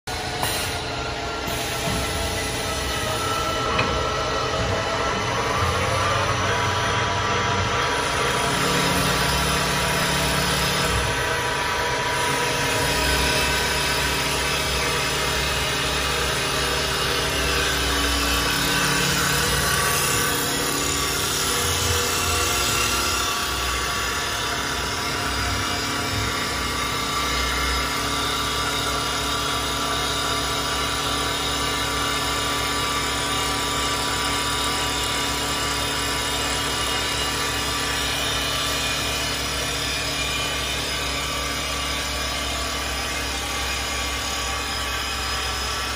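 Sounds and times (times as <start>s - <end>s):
wood lathe motors whining: 0.1s - 45.9s.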